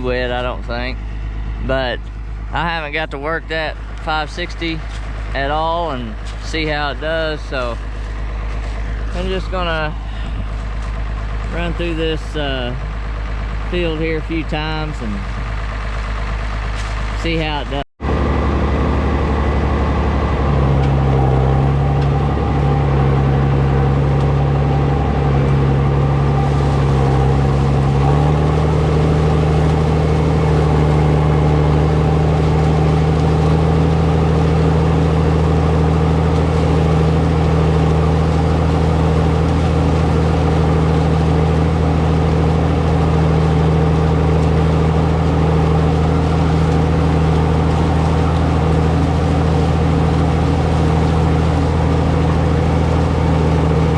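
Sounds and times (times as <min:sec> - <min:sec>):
tractor engine under load: 0:00.0 - 0:53.9.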